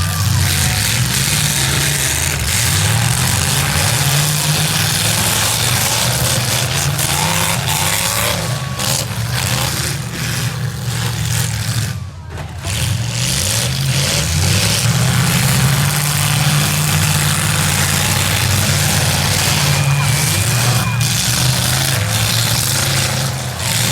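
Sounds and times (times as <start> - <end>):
car engines revving: 0.0 - 23.9.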